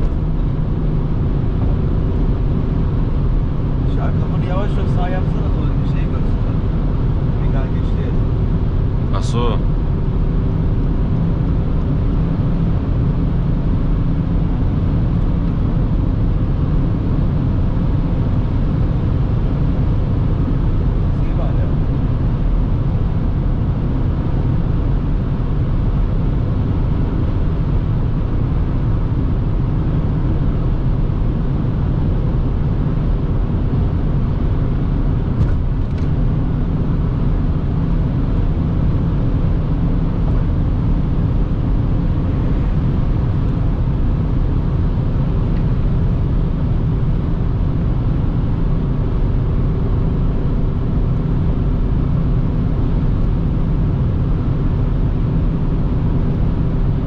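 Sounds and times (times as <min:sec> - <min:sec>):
low engine hum: 0:00.0 - 0:57.0
wind and tyre noise: 0:00.0 - 0:57.0.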